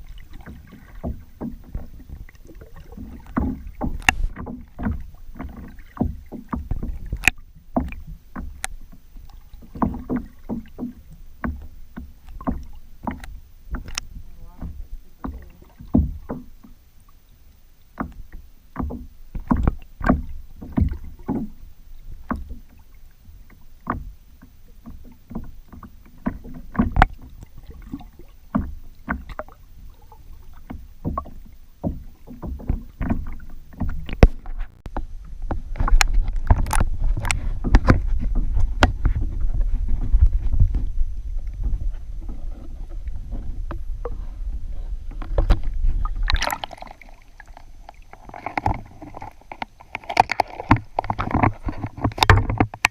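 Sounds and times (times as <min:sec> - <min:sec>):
paddle knocking on kayak hull: 0:00.0 - 0:16.8, 0:17.9 - 0:52.9
low rumble of water: 0:00.0 - 0:52.9.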